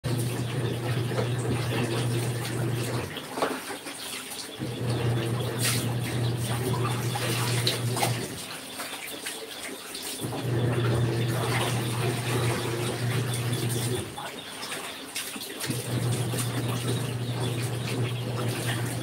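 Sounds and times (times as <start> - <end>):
washing machine motor humming: 0.0 - 3.7, 4.5 - 8.8, 10.1 - 19.0
water churning: 0.0 - 19.0.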